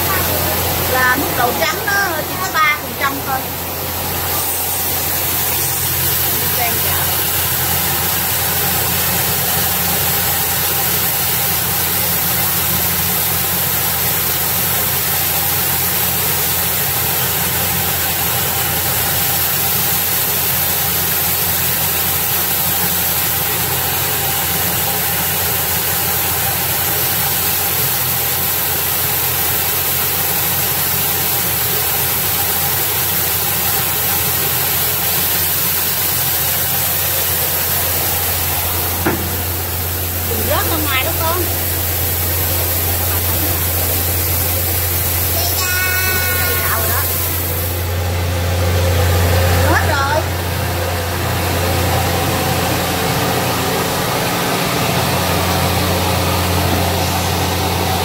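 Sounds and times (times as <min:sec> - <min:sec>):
even hiss: 0:00.0 - 0:58.0
rice-milling machine humming: 0:00.0 - 0:58.0.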